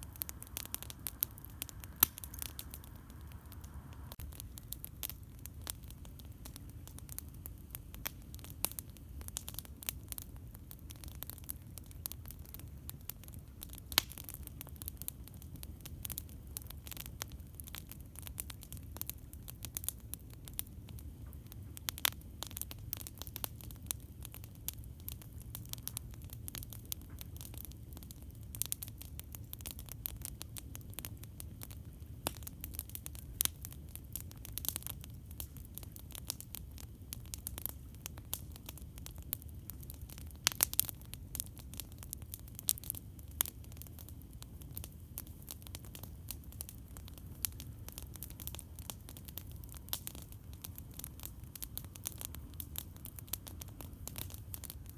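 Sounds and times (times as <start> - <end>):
campfire crackling and popping: 0.0 - 54.9
low fire rumble: 0.0 - 54.9.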